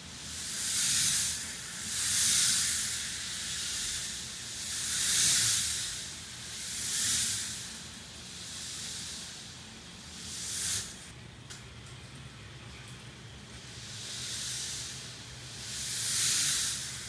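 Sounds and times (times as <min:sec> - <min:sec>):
toy roller coaster wheels whirring: 0:00.0 - 0:11.1, 0:13.5 - 0:17.0.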